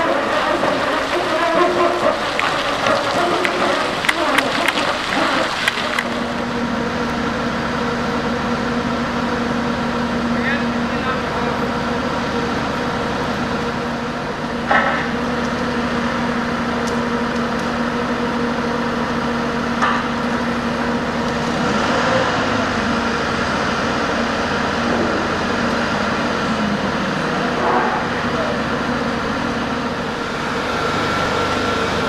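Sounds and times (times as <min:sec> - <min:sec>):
diesel truck engine humming: 0:00.0 - 0:32.0.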